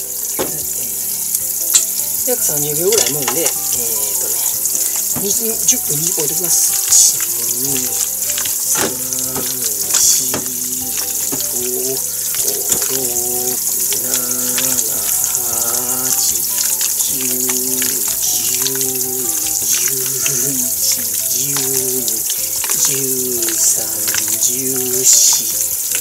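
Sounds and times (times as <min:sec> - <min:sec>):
background music with melody: 0:00.0 - 0:26.0
raw chicken squelching in marinade: 0:00.0 - 0:26.0.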